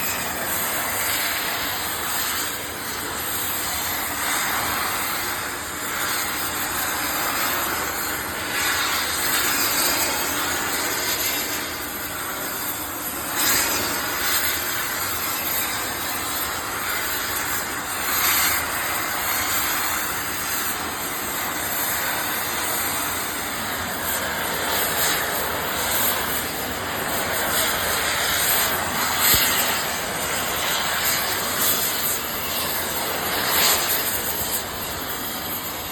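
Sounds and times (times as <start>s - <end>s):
gas torch flame hissing: 0.0s - 35.9s.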